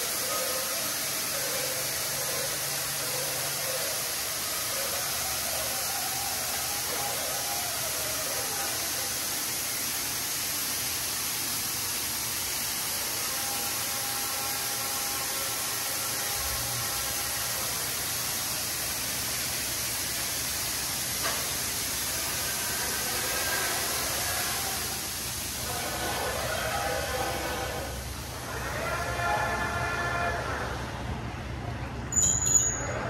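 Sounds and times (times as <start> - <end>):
car wash water spray hissing: 0.0 - 29.8.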